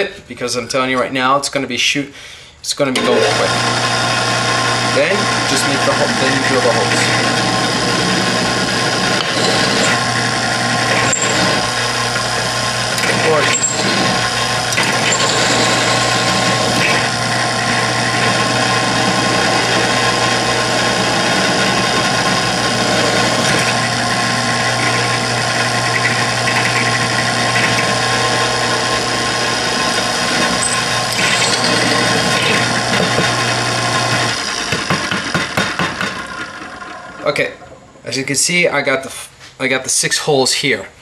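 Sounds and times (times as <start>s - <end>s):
drill press motor hum: 3.0s - 37.3s
drill bit grinding through steel: 3.0s - 37.4s.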